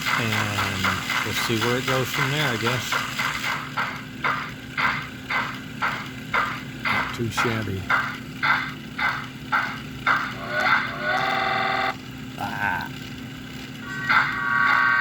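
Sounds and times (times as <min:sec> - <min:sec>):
model steam locomotive chuffs: 0:00.0 - 0:12.2, 0:12.9 - 0:15.0.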